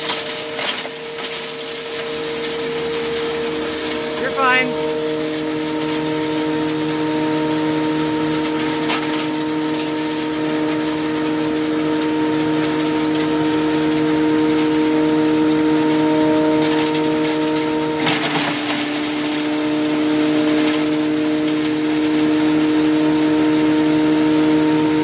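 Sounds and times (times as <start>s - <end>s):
hammer mill grinding wood: 0.0s - 25.0s.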